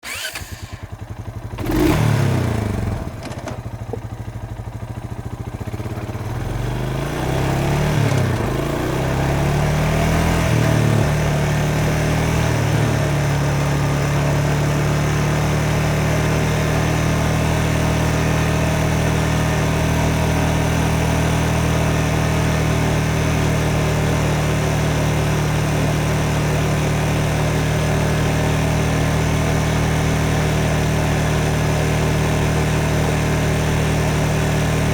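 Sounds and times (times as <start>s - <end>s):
lawnmower engine running: 0.0s - 34.9s.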